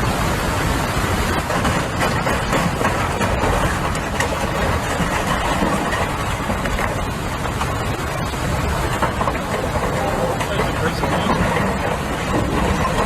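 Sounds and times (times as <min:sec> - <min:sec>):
storm wind on microphone: 0:00.0 - 0:13.0.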